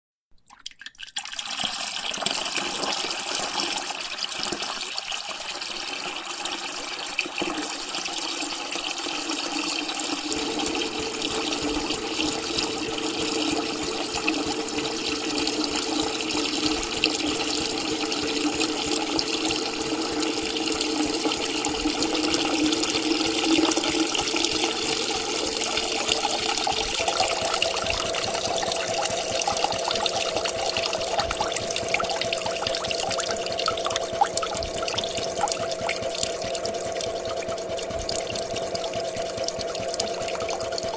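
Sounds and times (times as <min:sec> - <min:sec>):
water pouring into tank: 0:00.3 - 0:40.9.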